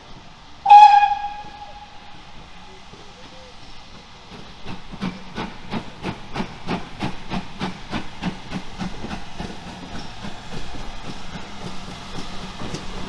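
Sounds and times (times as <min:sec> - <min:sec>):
steam locomotive chuffing: 0:00.6 - 0:13.0.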